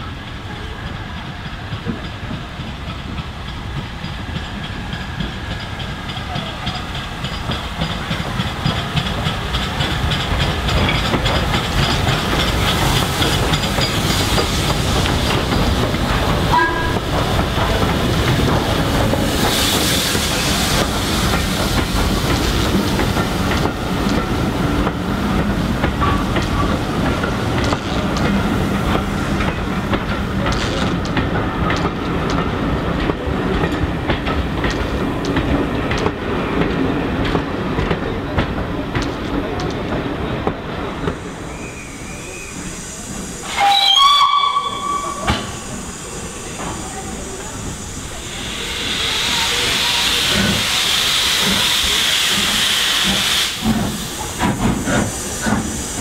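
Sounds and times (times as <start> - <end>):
steam hiss: 0.0 - 56.0
steam locomotive passing: 0.0 - 56.0
train wheels clicking on rails: 0.0 - 56.0.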